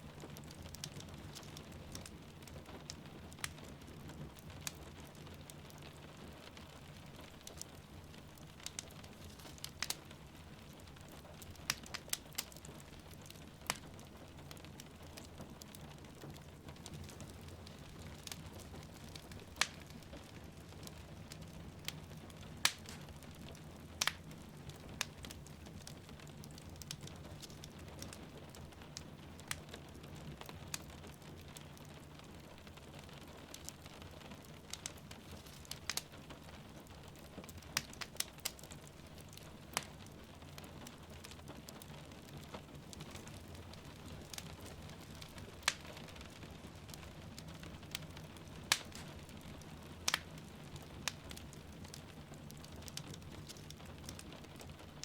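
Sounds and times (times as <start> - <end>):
rain falling outside: 0.0 - 55.0
wood fire crackling and popping: 0.0 - 55.0.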